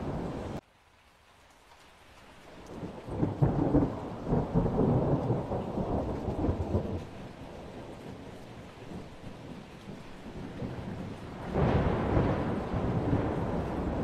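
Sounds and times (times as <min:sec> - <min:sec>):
rain hissing: 0:00.0 - 0:14.0
thunder: 0:02.7 - 0:14.0.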